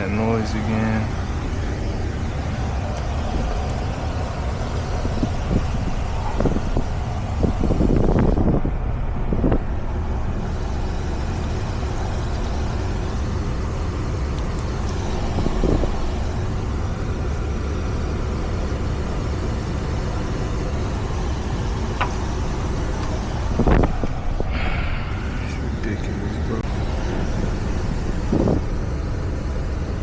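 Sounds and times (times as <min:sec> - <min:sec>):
road noise: 0:00.0 - 0:30.0
van engine rumble: 0:00.0 - 0:30.0.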